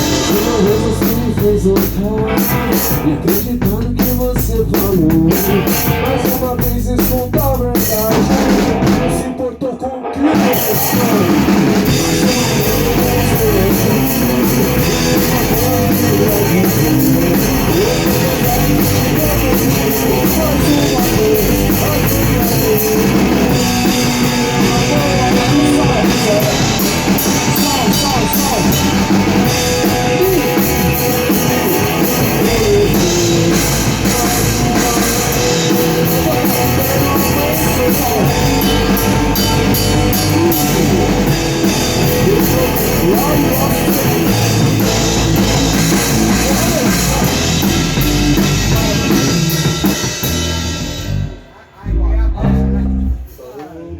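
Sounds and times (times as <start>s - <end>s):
rock band playing: 0.0s - 53.4s.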